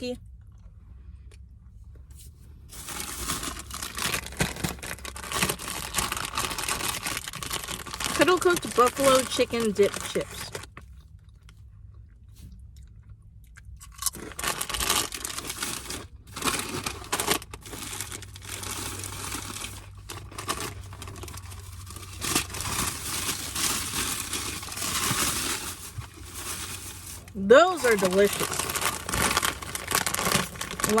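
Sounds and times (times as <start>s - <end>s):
potato chips crunching: 2.8s - 31.0s.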